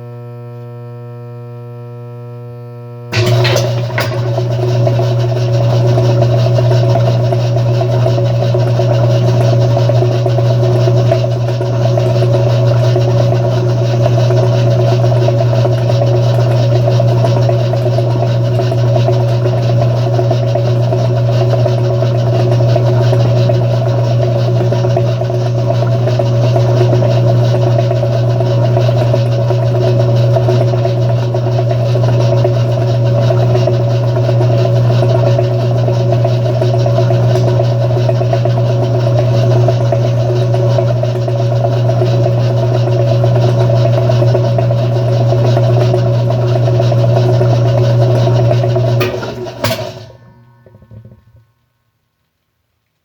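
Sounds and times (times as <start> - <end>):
washing machine running: 3.1 - 51.7.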